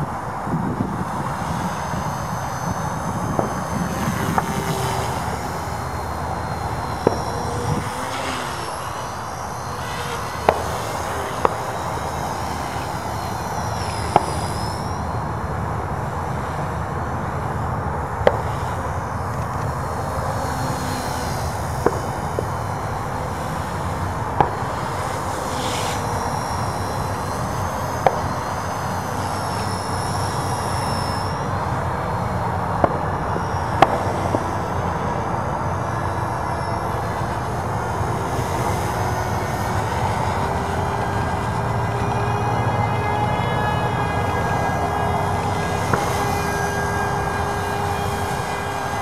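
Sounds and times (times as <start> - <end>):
high rotor whine: 0.0 - 49.0
rc helicopter drone: 0.0 - 49.0.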